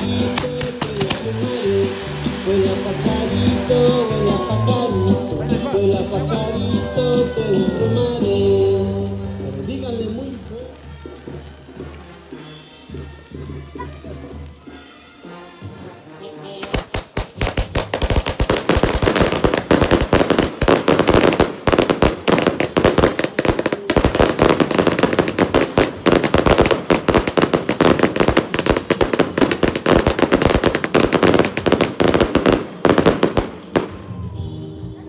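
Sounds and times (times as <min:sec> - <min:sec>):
firecrackers crackling: 0:00.0 - 0:34.2.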